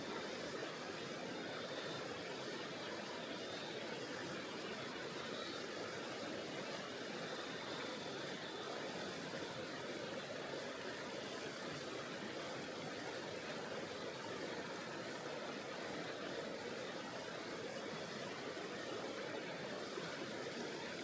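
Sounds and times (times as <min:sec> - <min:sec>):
river flowing over rocks: 0:00.0 - 0:21.0.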